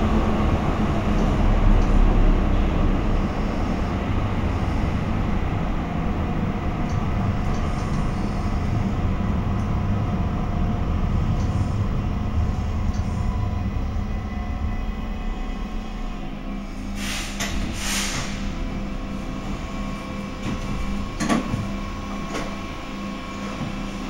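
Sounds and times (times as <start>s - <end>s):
light-rail car rumbling in tunnel: 0.0s - 24.0s.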